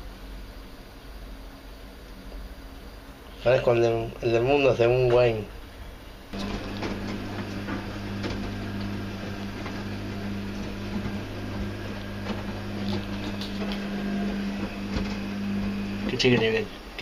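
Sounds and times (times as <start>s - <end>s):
washing machine electrical hum: 0.0s - 17.0s.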